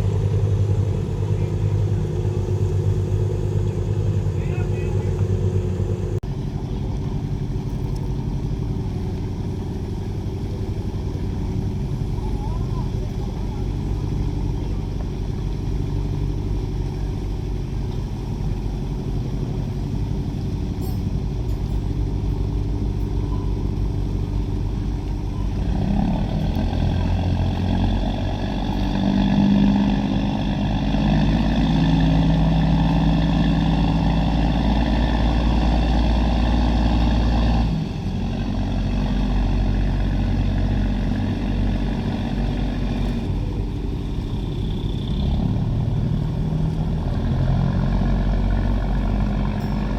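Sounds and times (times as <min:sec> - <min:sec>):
boat engine running: 0:00.0 - 0:49.9
high engine whine: 0:00.0 - 0:49.9.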